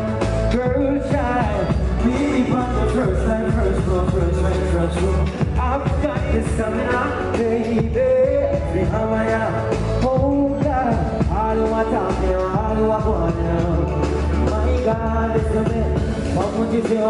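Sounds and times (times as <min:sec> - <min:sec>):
backing track with heavy bass: 0:00.0 - 0:17.0
man singing into microphone: 0:00.0 - 0:17.0.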